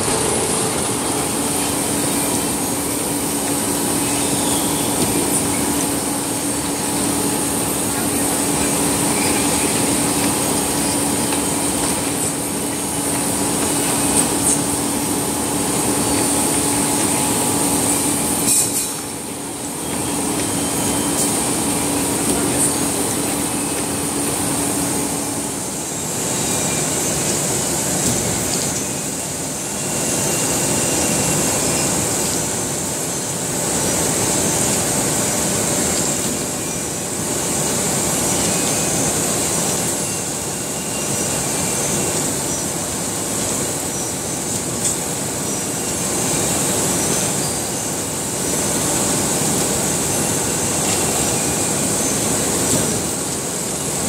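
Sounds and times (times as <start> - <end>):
machinery rumble and clatter: 0.0 - 54.0.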